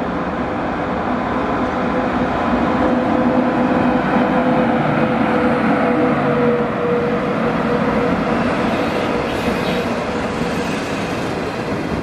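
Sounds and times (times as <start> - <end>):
electric locomotive hum: 0.0 - 12.0
train wheels rumbling on rail: 0.0 - 12.0.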